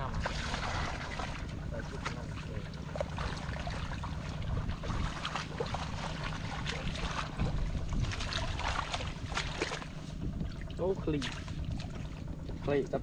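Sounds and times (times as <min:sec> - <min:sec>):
low wind rumble on microphone: 0:00.0 - 0:13.0
muddy water splashing: 0:00.0 - 0:13.0.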